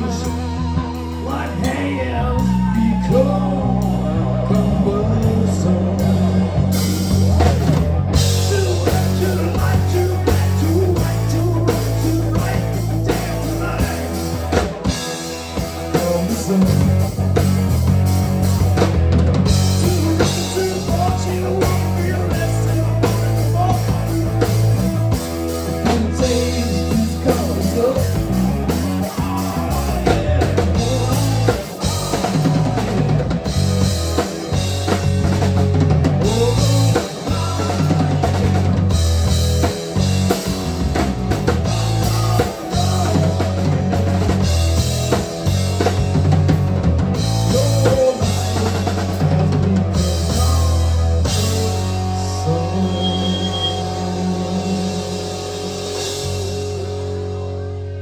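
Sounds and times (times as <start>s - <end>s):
drum kit: 0.0s - 58.0s
electric bass: 0.0s - 58.0s
electric guitar: 0.0s - 58.0s.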